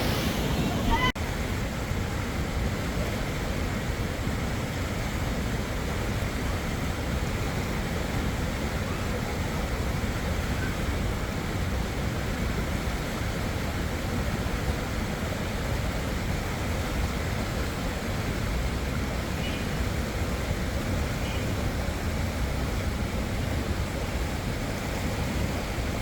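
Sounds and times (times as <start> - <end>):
spring water flowing: 0.0 - 26.0.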